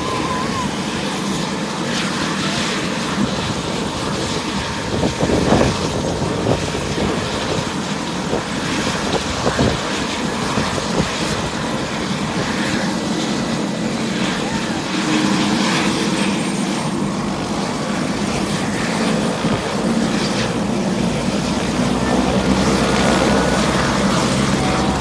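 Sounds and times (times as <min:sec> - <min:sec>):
helicopter turbine and rotor: 0:00.0 - 0:25.0.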